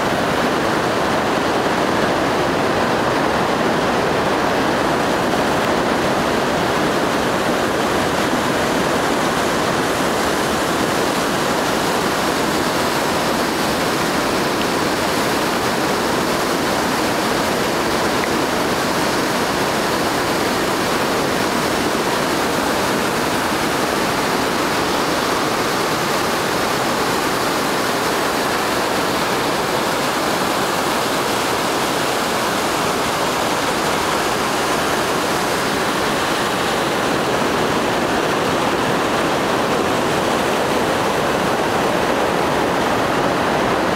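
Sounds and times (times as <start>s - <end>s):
water rushing over rocks: 0.0s - 43.9s.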